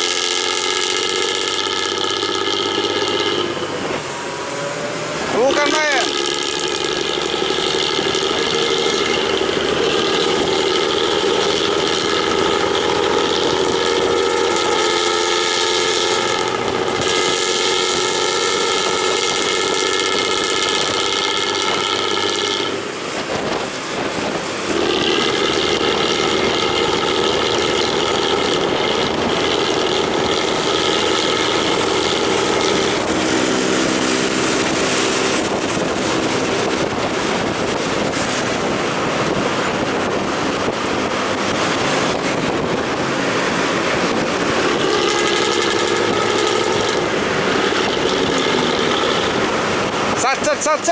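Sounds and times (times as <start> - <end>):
bus diesel engine droning: 0.0 - 50.9.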